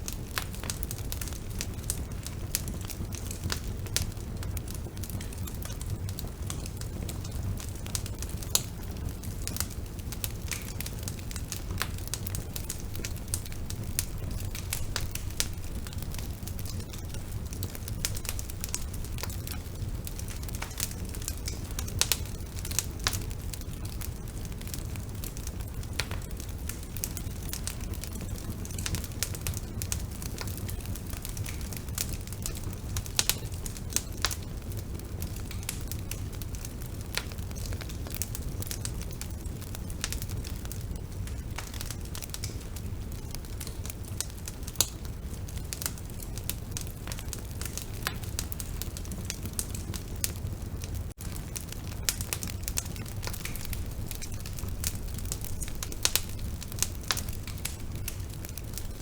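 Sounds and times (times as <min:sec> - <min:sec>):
bonfire crackling and rumbling: 0:00.0 - 0:59.0.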